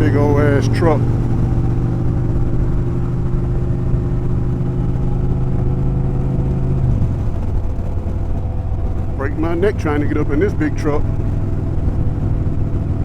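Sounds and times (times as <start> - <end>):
road and wind rumble: 0.0 - 13.0
vehicle engine running: 0.0 - 13.0.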